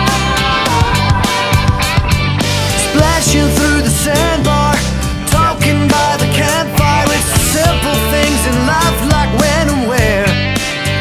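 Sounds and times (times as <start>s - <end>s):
rock music with drums and bass: 0.0s - 11.0s.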